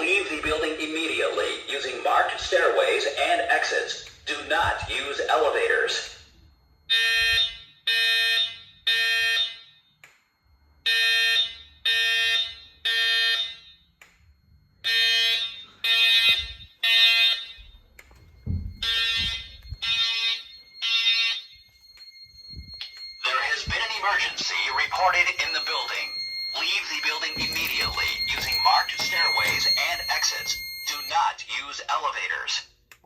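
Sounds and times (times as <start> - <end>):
buzzy evacuation alarm beeps: 0.0 - 32.7.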